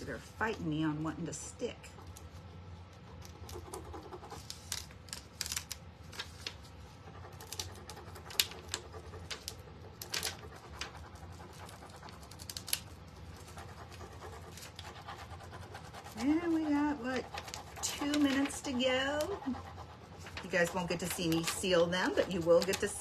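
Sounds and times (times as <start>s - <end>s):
scratching and rubbing on wood: 1.8s - 23.0s.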